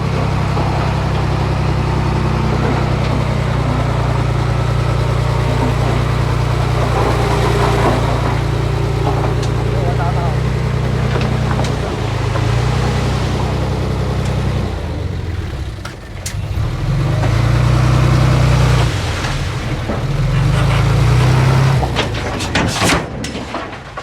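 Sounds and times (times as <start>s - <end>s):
diesel engine of earthmoving machine: 0.0s - 24.0s.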